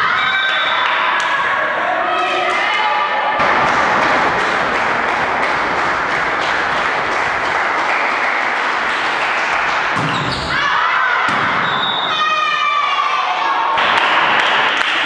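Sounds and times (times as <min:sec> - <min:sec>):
sports hall din: 0:00.0 - 0:15.0.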